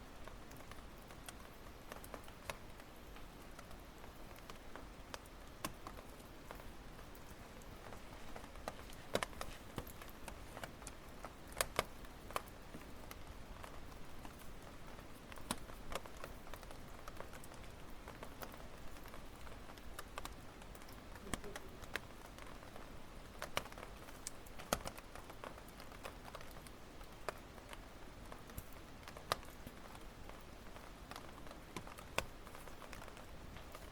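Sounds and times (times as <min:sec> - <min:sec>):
campfire crackling and popping: 0:00.0 - 0:33.9
soft steady hiss: 0:00.0 - 0:33.9.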